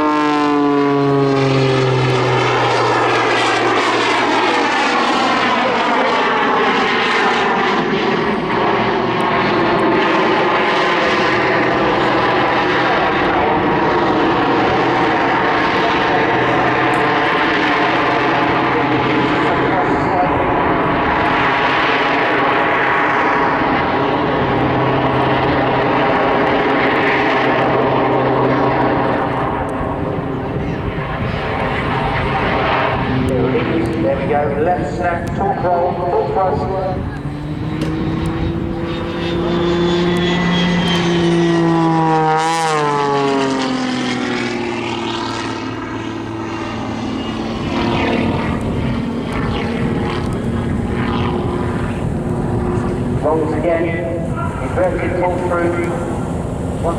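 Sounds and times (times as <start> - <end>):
aircraft engines running loud: 0.0 - 56.9.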